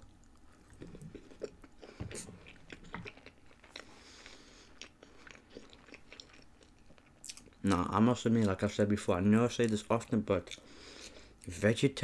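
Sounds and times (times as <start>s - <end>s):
person chewing food: 0.0s - 8.7s, 9.7s - 11.5s.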